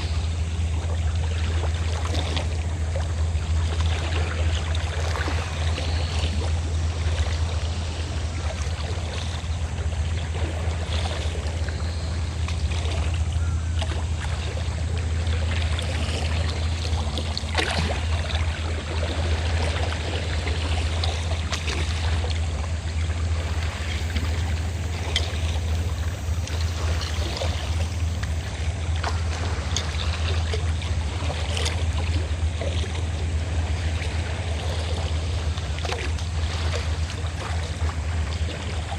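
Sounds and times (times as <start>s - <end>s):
boat engine drone: 0.0s - 38.9s
water lapping and splashing: 0.0s - 38.9s.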